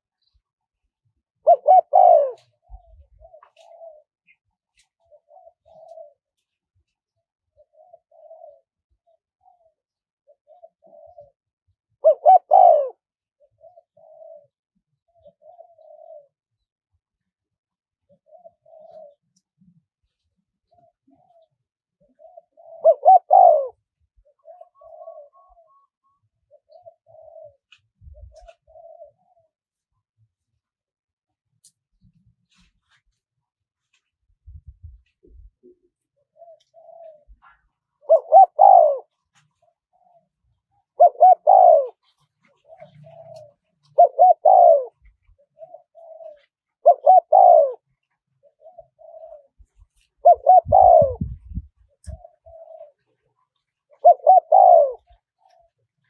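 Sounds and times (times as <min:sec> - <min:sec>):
dove cooing: 0:01.4 - 0:06.6, 0:07.5 - 0:16.4, 0:18.1 - 0:19.8, 0:20.7 - 0:29.6, 0:34.4 - 0:56.0.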